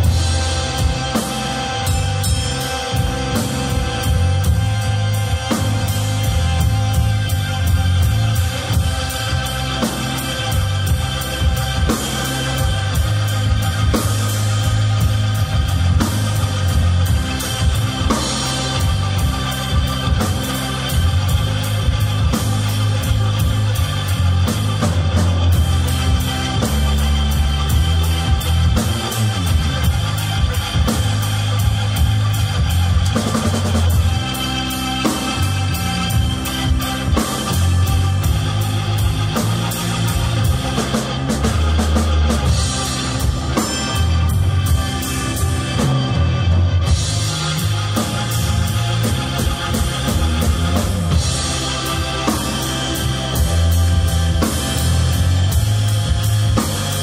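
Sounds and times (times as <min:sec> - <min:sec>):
band music: 0:00.0 - 0:57.0
deep sustained bass: 0:00.0 - 0:57.0
drums steady beat: 0:00.0 - 0:57.0.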